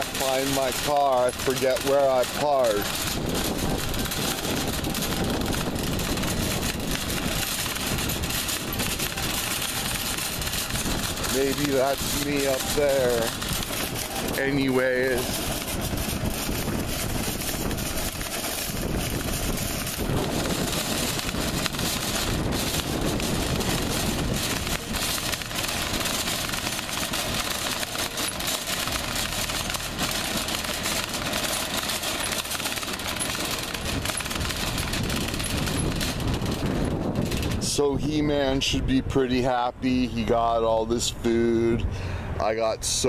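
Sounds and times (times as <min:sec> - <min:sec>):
shopping cart rattling on asphalt: 0:00.0 - 0:41.2.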